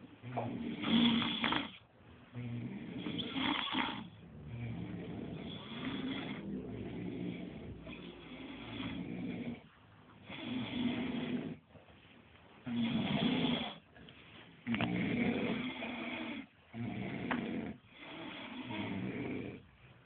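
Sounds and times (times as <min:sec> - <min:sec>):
people snoring: 0:00.2 - 0:09.6, 0:10.2 - 0:11.6, 0:12.7 - 0:13.8, 0:14.6 - 0:19.6.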